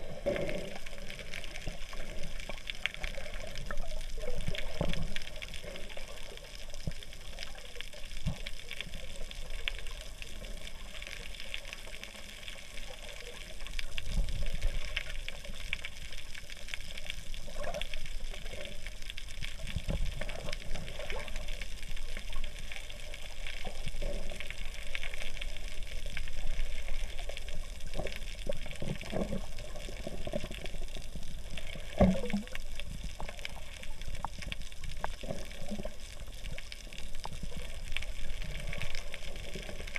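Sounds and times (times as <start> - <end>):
muffled water surges: 0.0 - 39.9
underwater fizzing crackle: 0.0 - 39.9.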